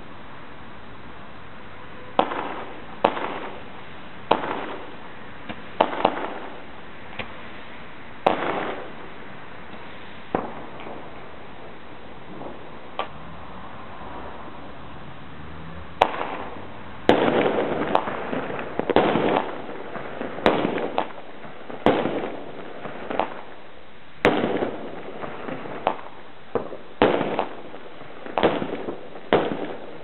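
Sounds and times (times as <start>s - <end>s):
background hiss: 0.0s - 30.0s
fireworks bangs: 2.0s - 14.8s, 15.8s - 30.0s.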